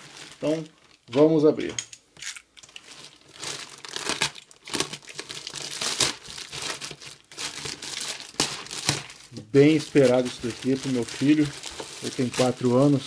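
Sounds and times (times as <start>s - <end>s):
plastic bag crinkling: 0.0s - 1.4s, 2.2s - 13.0s
plastic tearing rips: 2.2s - 13.0s.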